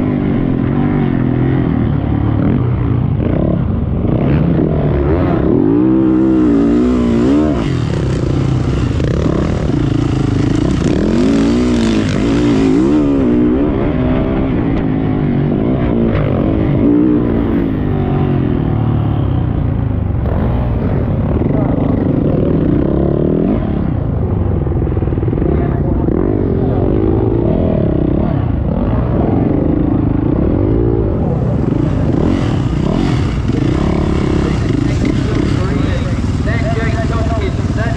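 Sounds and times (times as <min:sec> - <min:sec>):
motocross bike engine revving: 0:00.0 - 0:37.9.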